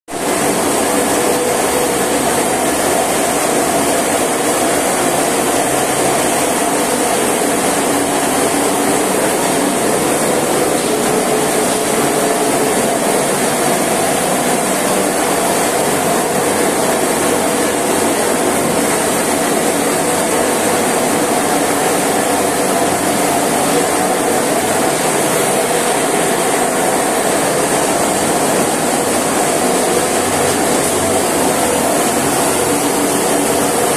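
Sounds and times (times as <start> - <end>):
processing machinery running: 0.1 - 33.9.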